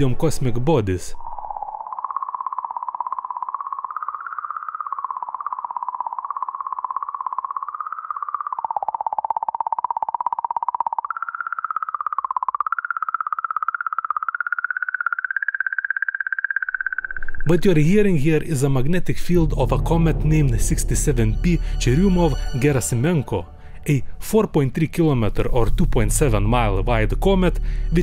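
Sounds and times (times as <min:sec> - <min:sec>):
wavering electronic tone: 0:00.0 - 0:28.0.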